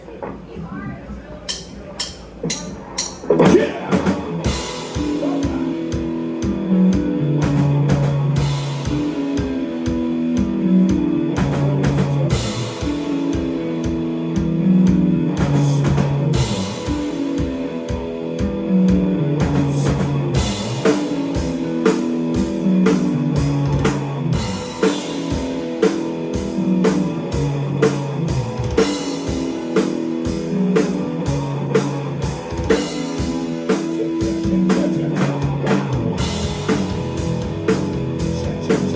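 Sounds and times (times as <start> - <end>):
drum kit: 0.0 - 38.9
guitar: 0.0 - 38.9
bass riff: 2.0 - 38.9.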